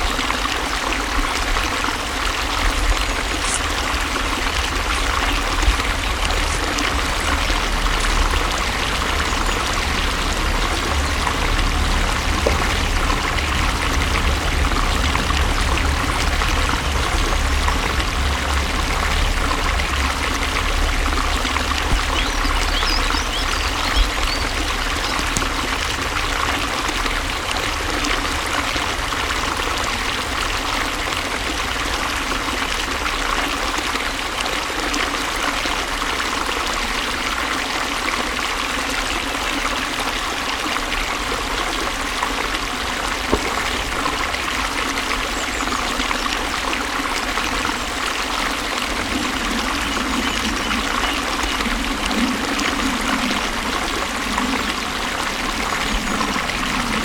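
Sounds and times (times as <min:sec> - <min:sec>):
low rumble: 0:00.0 - 0:37.4, 0:39.2 - 0:57.0
rushing stream: 0:00.0 - 0:57.0.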